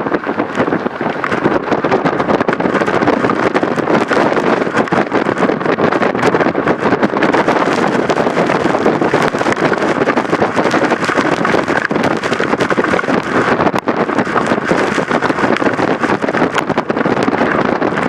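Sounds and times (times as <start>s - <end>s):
strong wind across microphone: 0.0s - 18.0s.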